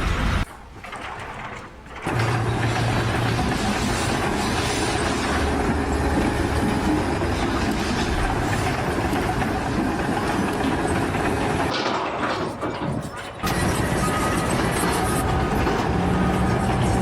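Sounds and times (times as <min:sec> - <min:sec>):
heavy machinery rumbling: 0:00.0 - 0:17.0.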